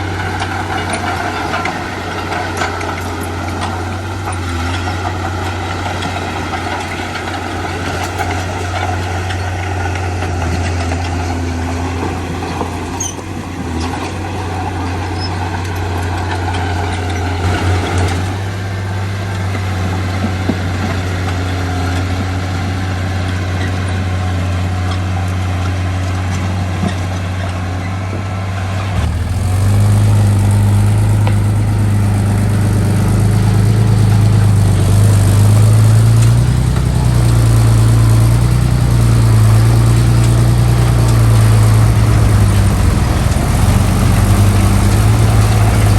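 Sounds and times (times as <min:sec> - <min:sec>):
heavy diesel engine droning: 0:00.0 - 0:45.9.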